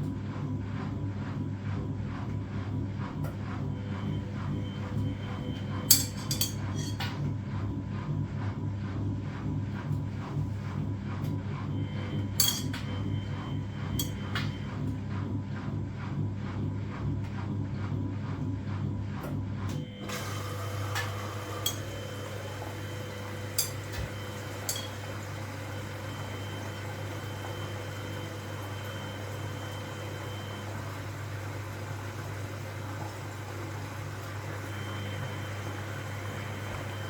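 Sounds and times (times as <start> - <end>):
washing machine motor hum: 0.0 - 37.0.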